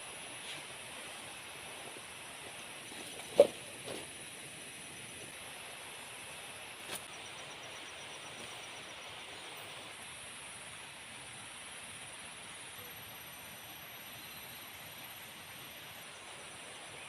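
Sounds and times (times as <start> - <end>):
forest hiss: 0.0 - 17.0
insects trilling: 0.0 - 17.0.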